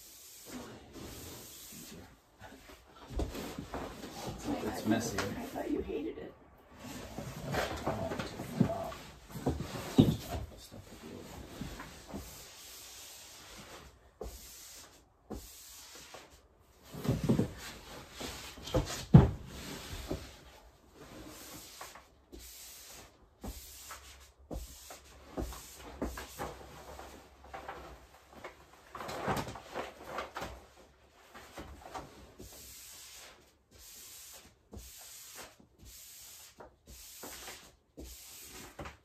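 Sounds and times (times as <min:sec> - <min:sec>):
wallpaper rubbing: 0:00.0 - 0:05.8, 0:06.7 - 0:39.0.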